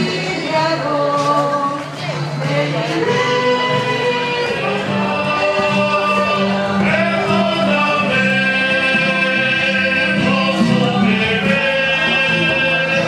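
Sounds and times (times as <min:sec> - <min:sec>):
hymn with instruments and group singing: 0:00.0 - 0:13.0.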